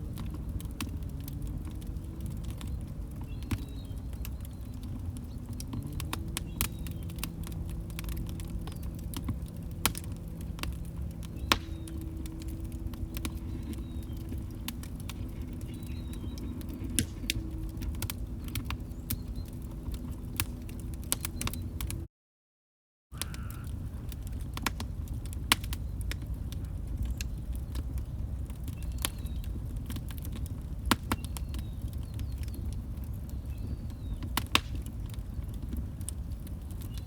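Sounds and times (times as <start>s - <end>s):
log fire crackling: 0.0s - 22.1s, 23.2s - 37.0s.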